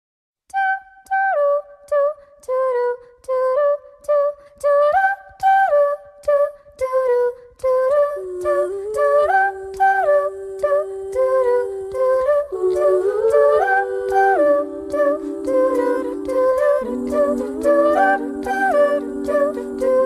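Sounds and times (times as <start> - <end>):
a cappella singing: 0.5 - 20.0.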